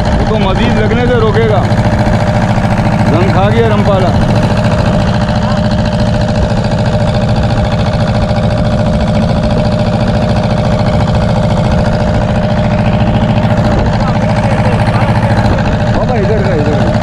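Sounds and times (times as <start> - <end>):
boat diesel engine running: 0.0 - 17.0
steady engine whine: 0.0 - 17.0.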